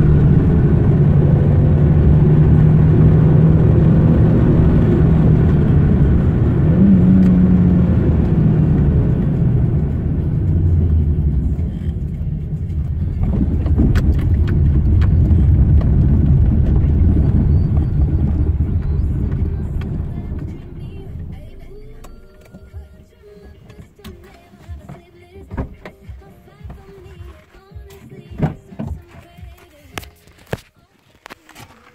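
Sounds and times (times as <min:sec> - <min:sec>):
car engine pulling: 0:00.0 - 0:31.9
tyre and road noise: 0:00.0 - 0:31.9.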